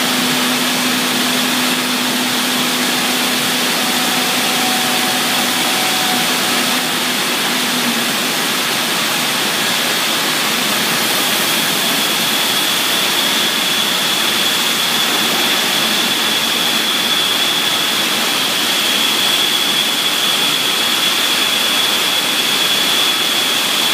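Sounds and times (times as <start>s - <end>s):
high steady machine whine: 0.0s - 23.9s
woodworking router running: 0.0s - 23.9s.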